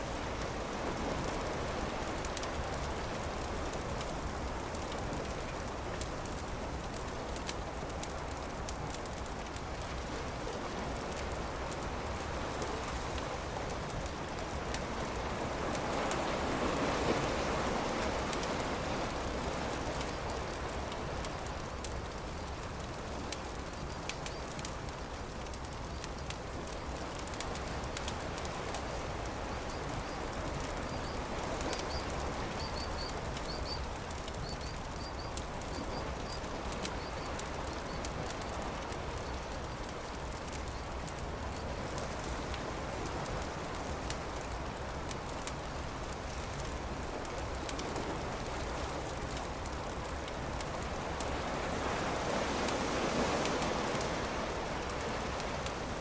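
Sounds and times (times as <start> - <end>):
surf washing: 0.0 - 25.7, 26.5 - 56.0
campfire crackling: 0.0 - 56.0.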